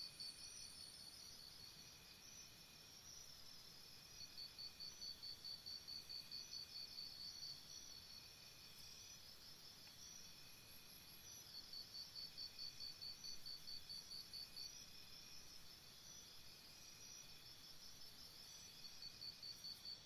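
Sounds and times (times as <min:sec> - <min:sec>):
faint cricket chirping: 0:00.0 - 0:20.0.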